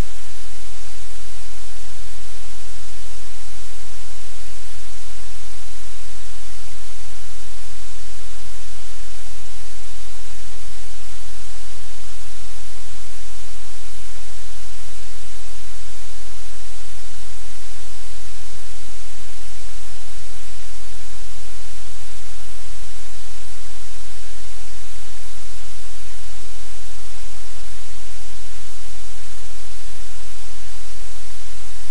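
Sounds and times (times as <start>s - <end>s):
static hiss: 0.0s - 31.9s.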